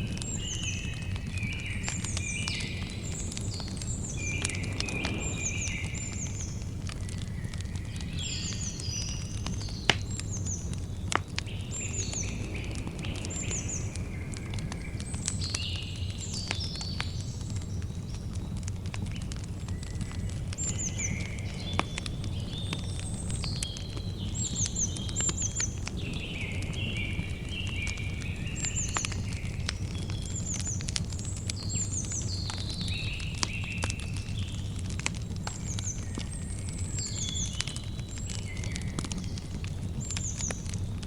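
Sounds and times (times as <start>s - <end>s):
birds singing and chirping: 0.0s - 41.0s
campfire crackling and popping: 0.0s - 41.0s.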